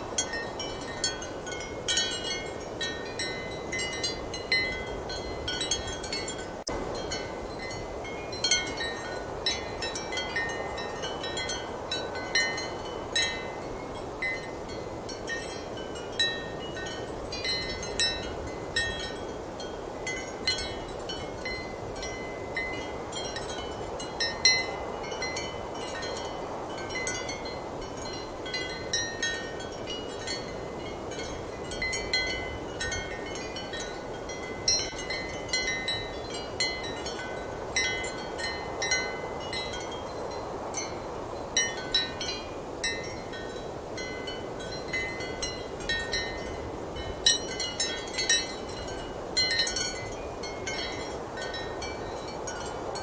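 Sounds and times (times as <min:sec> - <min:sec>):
ceramic wind chimes clinking: 0:00.0 - 0:53.0
strong wind: 0:00.0 - 0:53.0.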